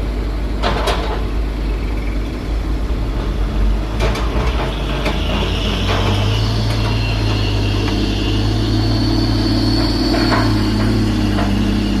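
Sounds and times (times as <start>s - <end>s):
diesel engine humming: 0.0s - 12.0s
high whine: 1.4s - 12.0s.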